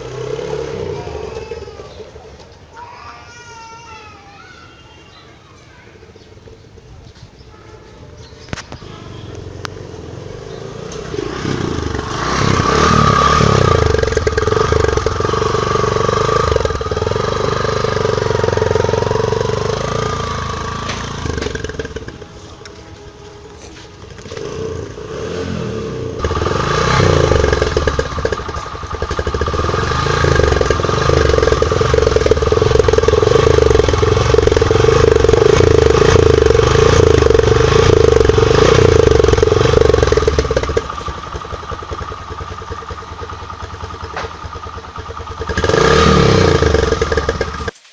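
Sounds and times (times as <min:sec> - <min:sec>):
motorcycle engine running: 0:00.0 - 0:02.6, 0:08.4 - 0:47.8.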